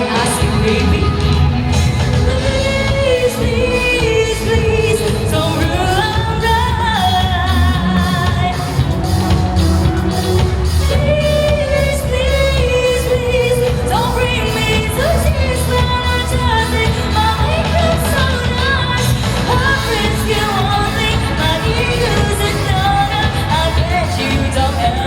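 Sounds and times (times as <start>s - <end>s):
live pop band playing: 0.0s - 25.0s
steady drum beat: 0.0s - 25.0s.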